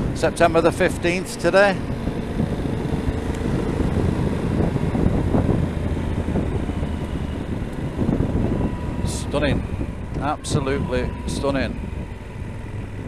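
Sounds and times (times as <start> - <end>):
motorcycle engine running: 0.0 - 13.0
wind rush on microphone: 0.0 - 13.0.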